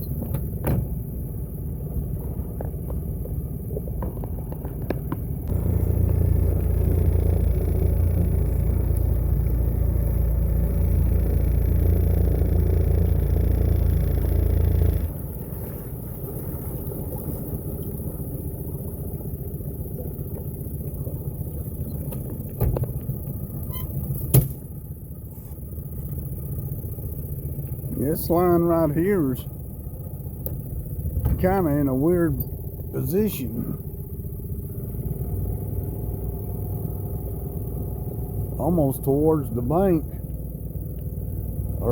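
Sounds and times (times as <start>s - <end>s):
boat motor running: 0.0s - 41.9s.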